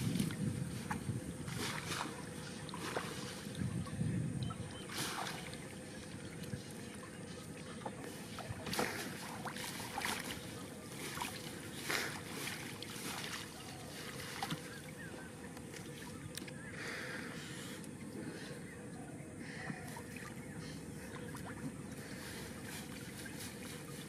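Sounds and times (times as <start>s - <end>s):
fishing net hauled over boat side: 0.0s - 18.7s, 19.4s - 24.0s
water splashing and sloshing: 0.0s - 18.7s, 19.5s - 24.0s.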